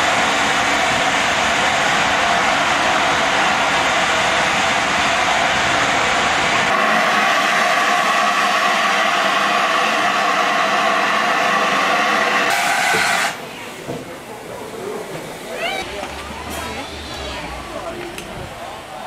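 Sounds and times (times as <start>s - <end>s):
steam locomotive hissing: 0.0s - 19.0s
train coaches rumbling on track: 0.0s - 19.0s.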